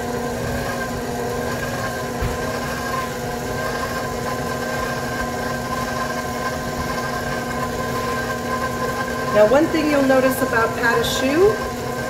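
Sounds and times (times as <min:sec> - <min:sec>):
stand mixer motor whine: 0:00.0 - 0:12.0.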